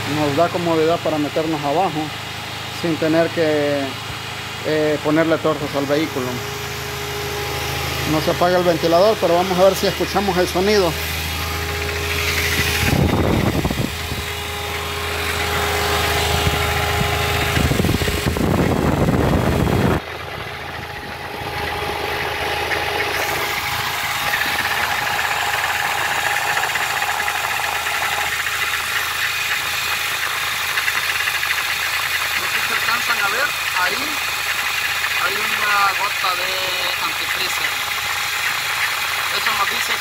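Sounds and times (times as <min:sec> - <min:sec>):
car engine idling: 0:00.0 - 0:40.0
radiator fan running: 0:00.0 - 0:40.0
steady hum: 0:00.0 - 0:40.0.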